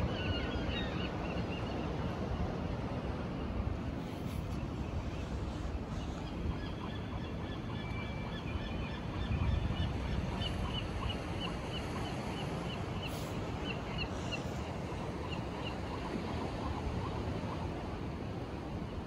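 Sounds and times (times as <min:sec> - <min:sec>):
wind and water rumble: 0:00.0 - 0:19.0.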